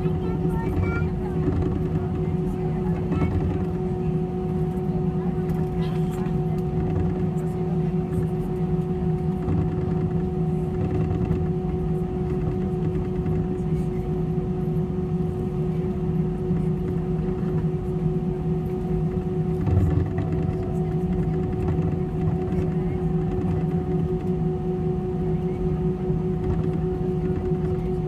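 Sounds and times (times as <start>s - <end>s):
aircraft cabin engine rumble: 0.0s - 28.0s.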